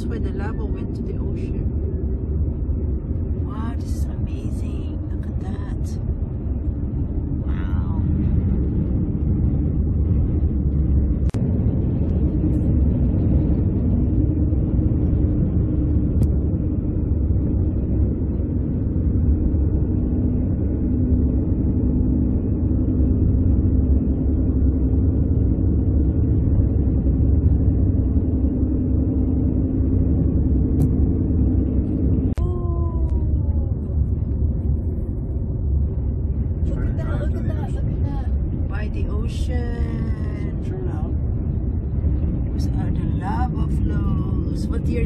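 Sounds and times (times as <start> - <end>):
faint hum: 0.0 - 45.0
road and engine rumble in car: 0.0 - 45.0.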